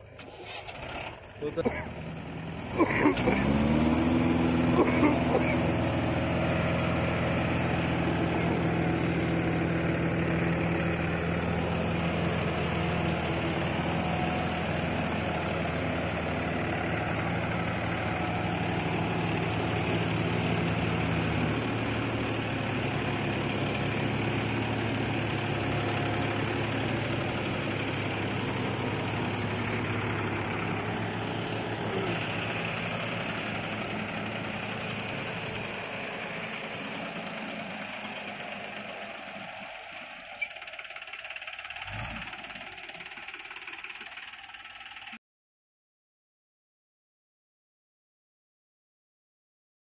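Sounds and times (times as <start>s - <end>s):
diesel tractor engines under load: 0.0s - 45.2s.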